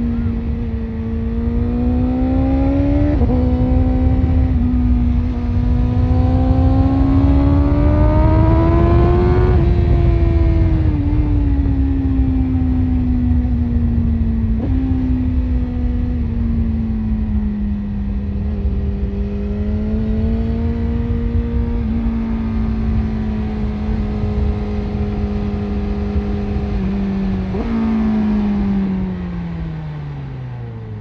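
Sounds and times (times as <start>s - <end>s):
engine blips on downshifts: 0.0s - 31.0s
motorcycle engine cruising: 0.0s - 31.0s
wind and road noise: 0.0s - 31.0s.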